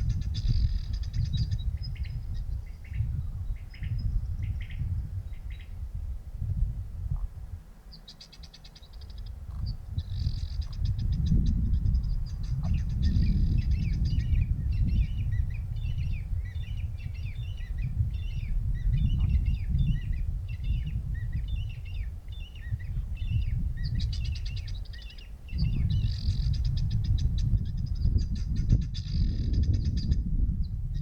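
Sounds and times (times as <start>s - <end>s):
steady low rumble: 0.0s - 7.9s, 8.8s - 31.0s.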